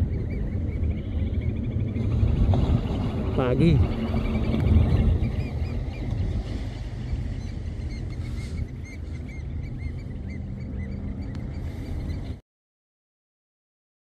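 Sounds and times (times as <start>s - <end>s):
birds chirping: 0.0s - 12.4s
low rumble of wind or surf: 0.0s - 12.4s.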